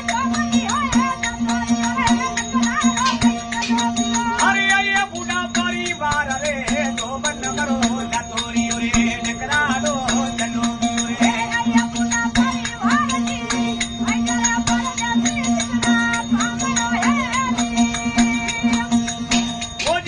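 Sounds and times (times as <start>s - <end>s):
rattling percussion: 0.0s - 20.0s.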